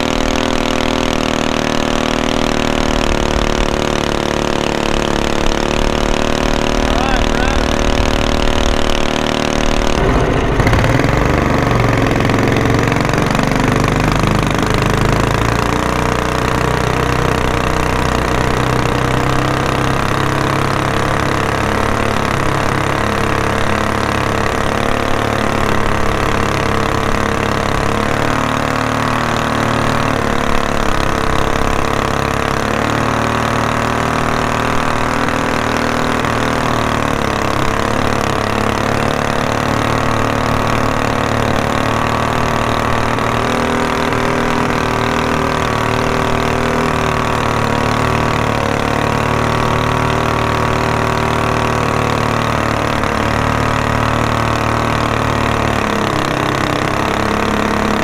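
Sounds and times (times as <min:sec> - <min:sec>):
boat engine running hard: 0:00.0 - 0:58.0.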